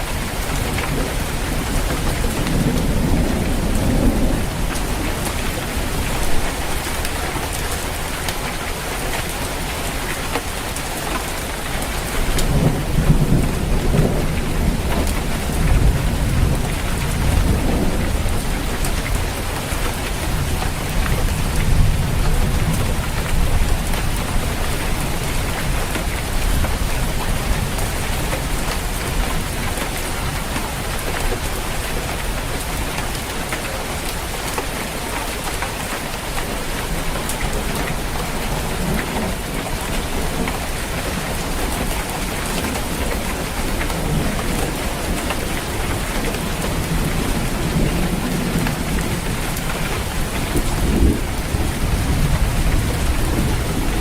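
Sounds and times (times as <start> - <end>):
thunder rumbling: 0.0 - 10.0, 11.3 - 31.6, 36.2 - 54.0
heavy rain drumming on a roof: 0.0 - 54.0.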